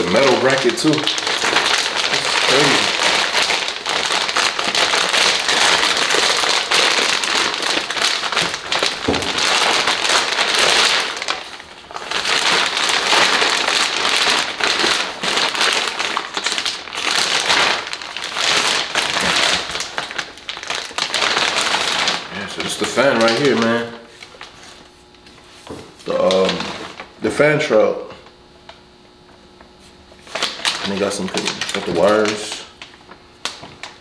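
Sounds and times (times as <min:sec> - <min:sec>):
plastic bag crinkling: 0:00.0 - 0:27.3, 0:30.2 - 0:34.0.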